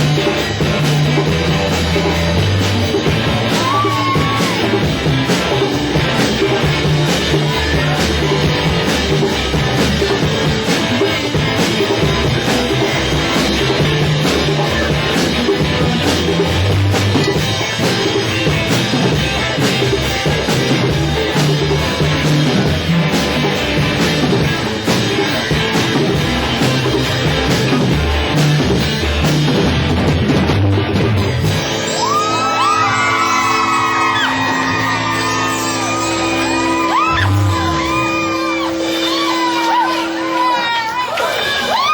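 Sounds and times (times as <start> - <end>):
drum kit: 0.0 - 41.9
live rock band playing: 0.0 - 41.9.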